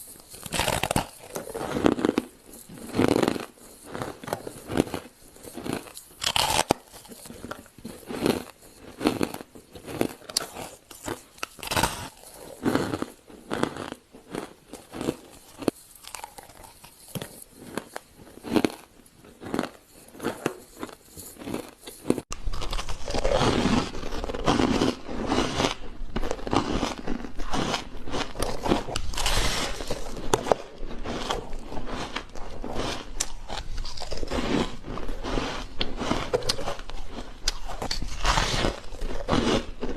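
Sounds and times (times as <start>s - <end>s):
ice being crunched: 0.0s - 14.0s, 14.8s - 39.9s.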